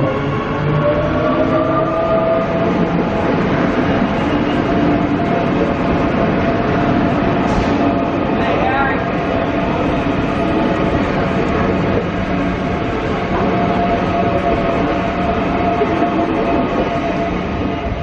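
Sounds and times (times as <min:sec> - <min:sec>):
train wheels rushing: 0:00.0 - 0:18.0.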